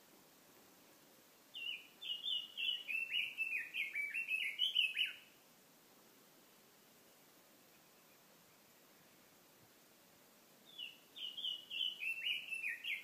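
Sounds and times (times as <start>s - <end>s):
faint steady hiss: 0.0s - 13.0s
songbird singing: 1.3s - 5.5s, 6.7s - 13.0s.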